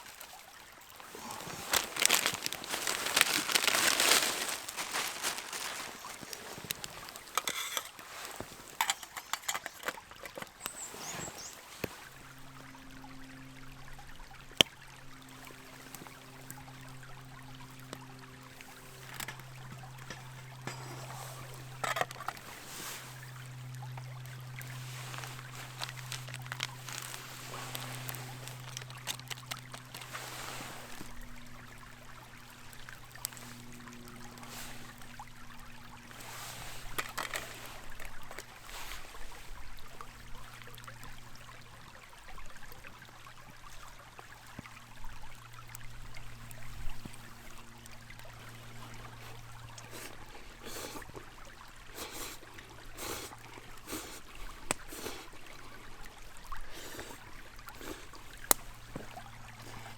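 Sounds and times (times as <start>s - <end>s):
low steady hum: 0.0s - 59.9s
water trickling: 0.0s - 59.9s.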